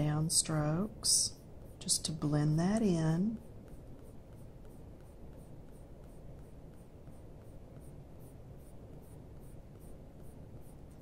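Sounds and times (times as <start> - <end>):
colored pencil scratching on paper: 0.0 - 11.0.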